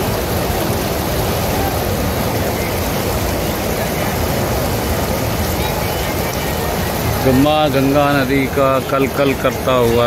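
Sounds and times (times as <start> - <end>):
river water rushing and splashing: 0.0 - 10.0.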